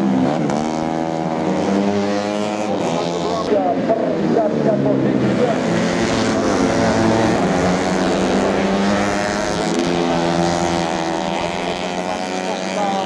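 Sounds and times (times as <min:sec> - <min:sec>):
motorcycles racing: 0:00.0 - 0:13.0.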